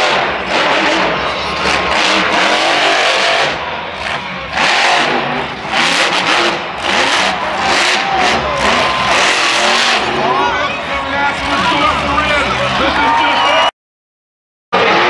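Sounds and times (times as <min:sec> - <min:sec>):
truck engine revving hard: 0:00.0 - 0:13.7, 0:14.8 - 0:15.0.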